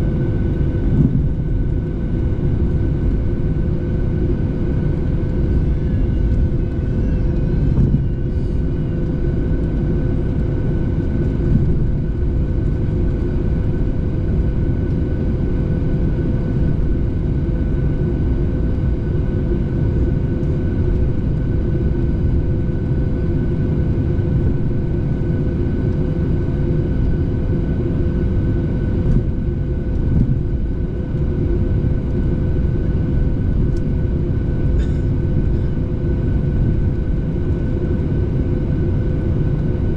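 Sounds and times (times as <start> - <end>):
airliner engine rumble: 0.0 - 39.9
constant whine: 0.0 - 39.9.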